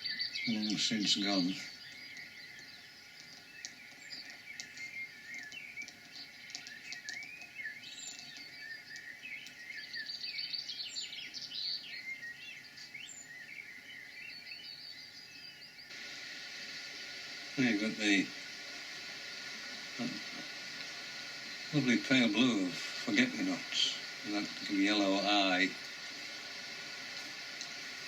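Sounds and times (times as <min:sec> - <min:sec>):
faint background noise: 0:00.0 - 0:28.0
songbirds singing and chirping: 0:00.0 - 0:28.0.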